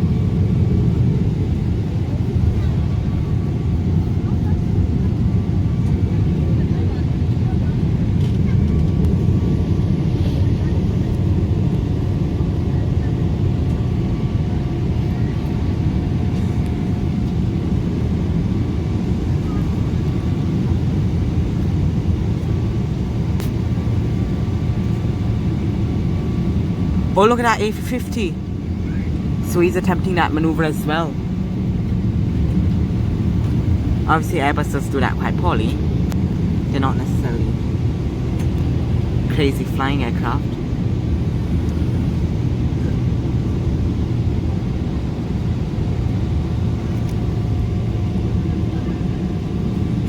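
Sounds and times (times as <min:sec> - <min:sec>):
jet engines rumbling: 0:00.0 - 0:50.0.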